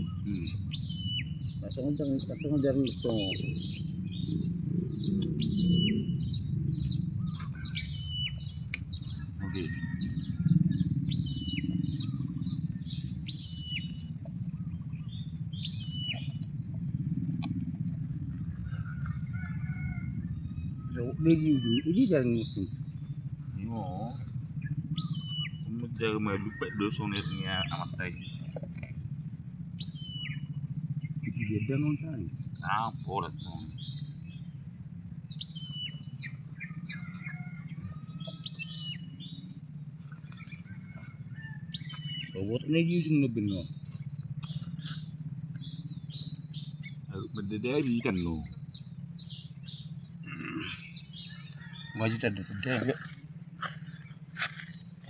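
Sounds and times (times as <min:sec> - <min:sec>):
small birds chirping: 0:00.0 - 0:55.0
steady low hum: 0:00.0 - 0:55.0
steady low rumble: 0:00.0 - 0:55.0.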